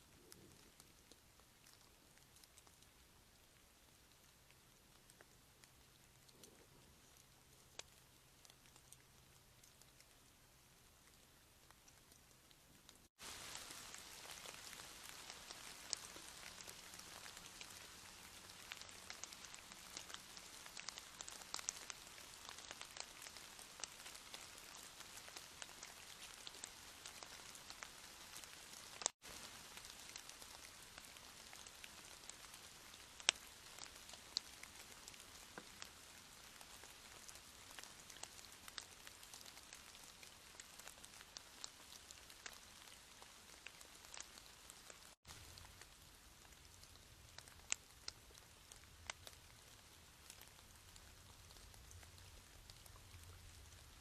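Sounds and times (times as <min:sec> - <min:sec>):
light rain falling: 0:00.0 - 0:54.0
raindrops ticking on a surface: 0:00.0 - 0:54.0.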